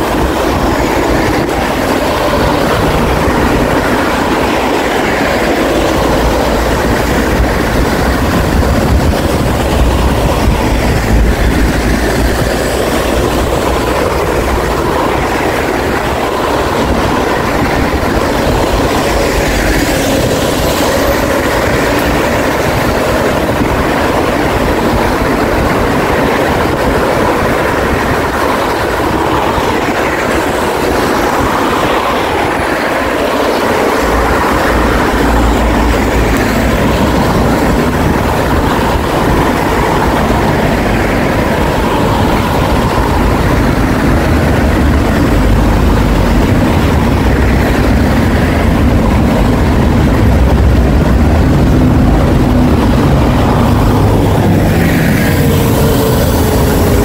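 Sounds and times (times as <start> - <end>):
city traffic noise: 0.0 - 57.0.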